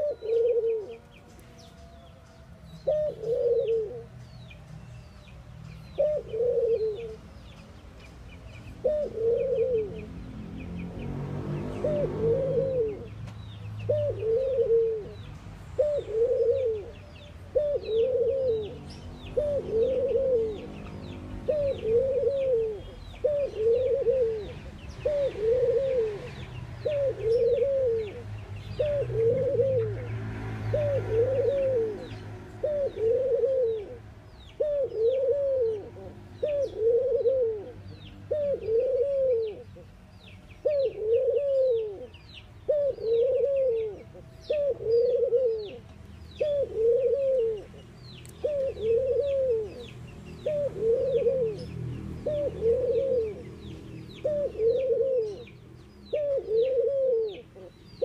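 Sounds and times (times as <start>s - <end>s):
dove cooing: 0.0s - 2.0s, 2.8s - 4.2s, 6.0s - 7.3s, 8.8s - 10.2s, 11.5s - 13.2s, 13.8s - 39.8s, 40.6s - 58.0s.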